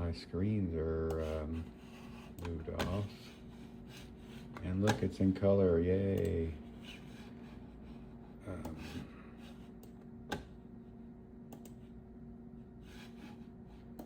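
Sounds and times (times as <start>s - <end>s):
computer humming: 0.0s - 14.0s.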